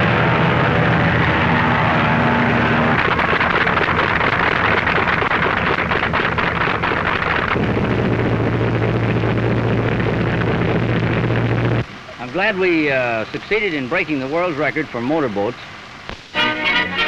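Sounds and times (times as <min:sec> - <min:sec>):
speedboat engines running: 0:00.0 - 0:17.0.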